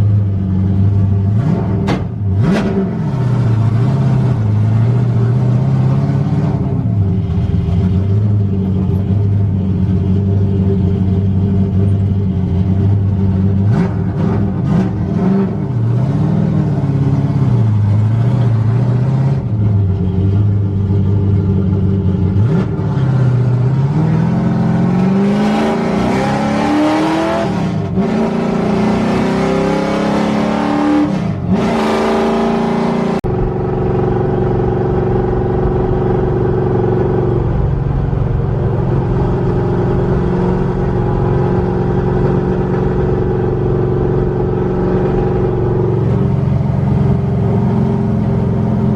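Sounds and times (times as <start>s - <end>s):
car engine revving through gears: 1.2s - 8.4s, 13.3s - 19.8s, 22.2s - 48.9s.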